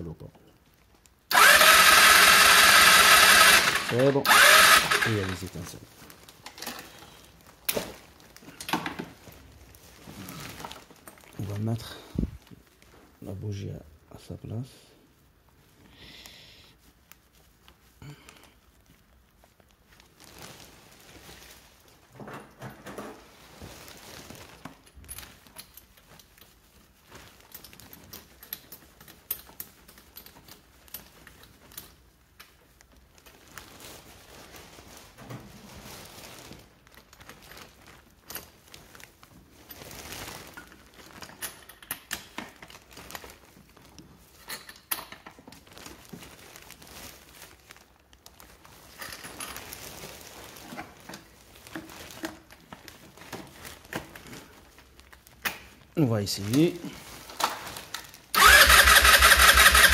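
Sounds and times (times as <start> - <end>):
plastic sheeting crinkling: 0.0 - 1.6, 2.5 - 59.9.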